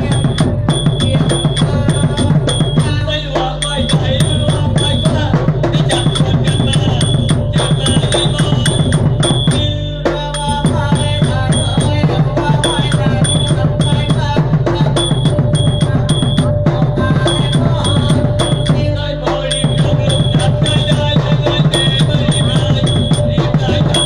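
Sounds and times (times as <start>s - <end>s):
high ringing strike: 0.0s - 24.0s
rapid drumming: 0.0s - 24.0s.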